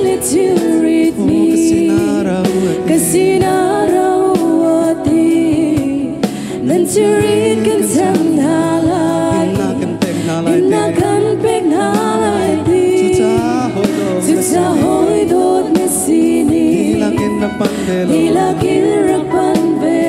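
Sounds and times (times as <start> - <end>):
drums: 0.0 - 20.0
electric guitar: 0.0 - 20.0
women singing into microphones: 0.0 - 20.0.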